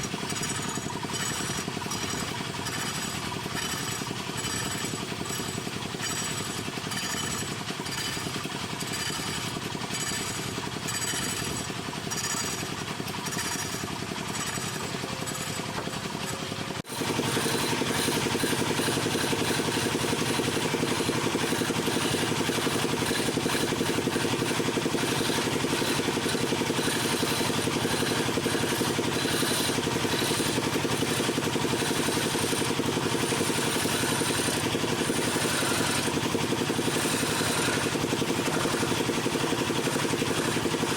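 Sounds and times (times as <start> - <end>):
woodworking power tool chattering: 0.0 - 40.9.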